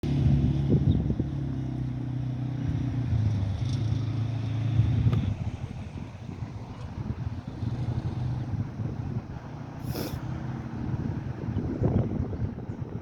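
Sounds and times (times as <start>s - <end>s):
vehicle motor humming: 0.0s - 13.0s.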